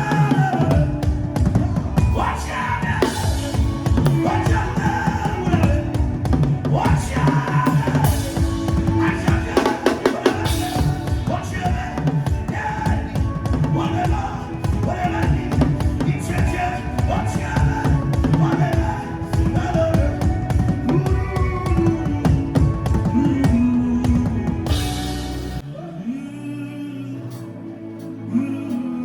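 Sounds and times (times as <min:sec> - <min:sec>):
voices singing: 0:00.0 - 0:29.0
fast dense drumming: 0:00.4 - 0:25.6.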